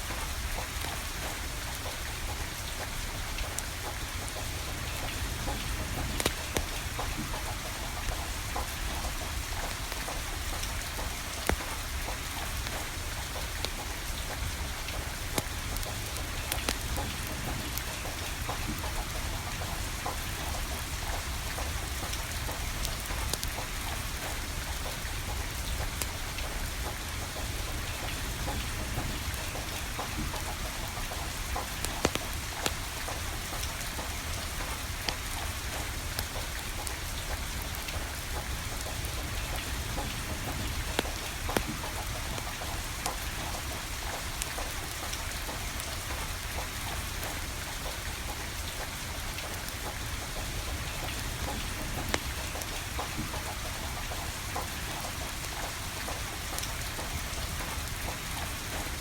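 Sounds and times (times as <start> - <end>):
steady rain falling: 0.0 - 59.0
burning firewood crackling: 4.6 - 24.9, 28.6 - 46.3, 48.8 - 59.0.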